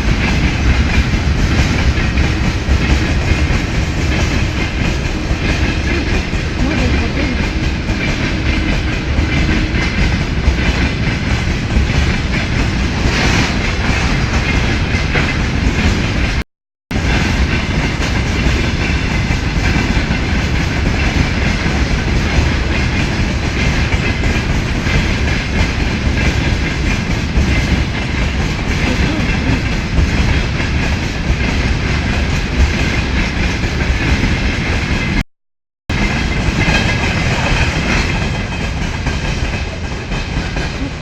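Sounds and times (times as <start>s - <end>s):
freight train rumbling: 0.0s - 35.2s, 35.9s - 41.0s
wheel clickety-clack: 0.0s - 35.2s, 35.9s - 41.0s.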